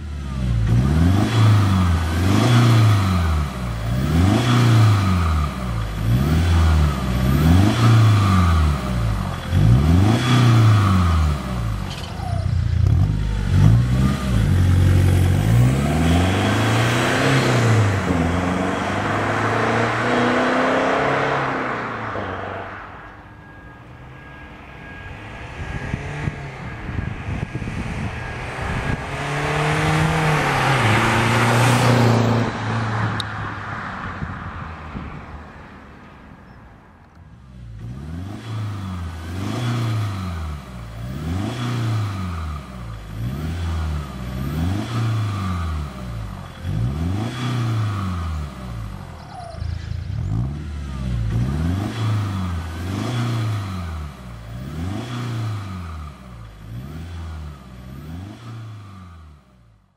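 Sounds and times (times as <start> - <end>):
car accelerating away: 0.0 - 36.1, 37.4 - 59.7
car engine revving: 0.0 - 36.4, 37.1 - 59.9.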